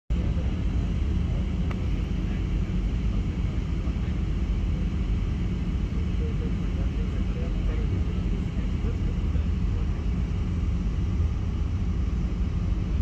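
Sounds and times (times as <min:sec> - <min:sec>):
jet engine rumble in cabin: 0:00.1 - 0:13.0.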